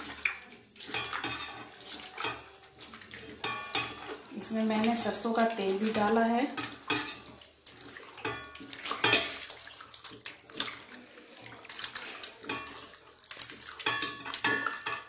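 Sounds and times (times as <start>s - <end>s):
wet squishing of raw meat: 0.0s - 15.0s.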